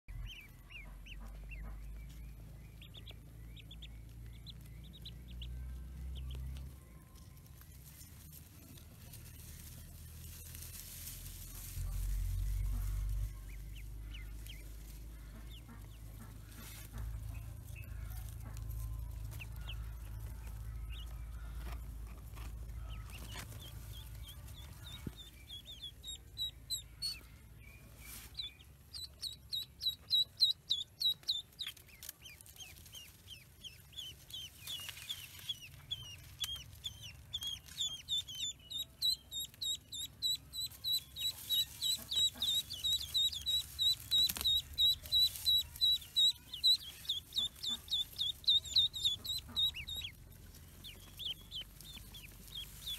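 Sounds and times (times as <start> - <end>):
ducklings peeping: 0.1 - 52.9.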